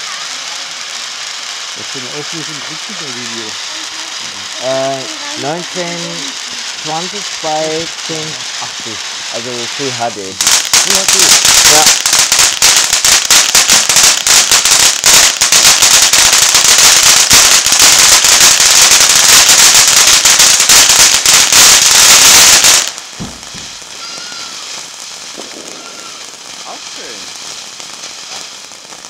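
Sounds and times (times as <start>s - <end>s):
firework fountain crackling: 0.0s - 29.0s
firework fountain hissing: 0.0s - 29.0s.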